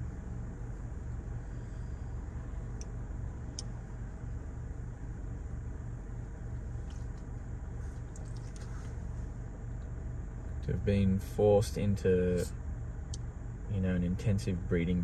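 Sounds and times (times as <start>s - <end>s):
car engine hum inside cabin: 0.0s - 15.0s.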